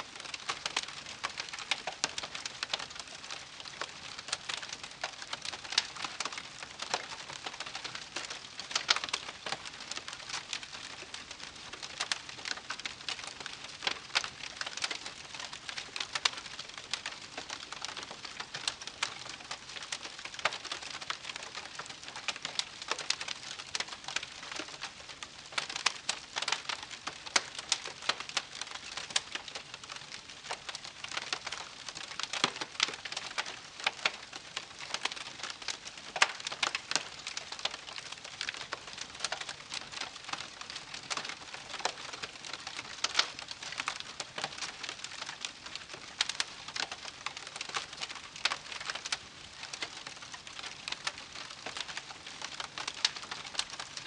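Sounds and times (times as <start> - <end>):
campfire crackling: 0.2 - 24.8, 25.4 - 54.0.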